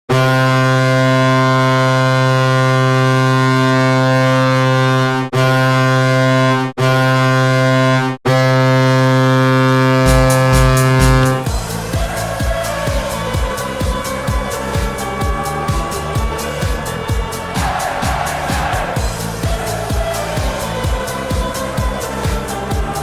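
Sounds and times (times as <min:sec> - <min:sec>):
goal horn blasts: 0:00.1 - 0:22.8.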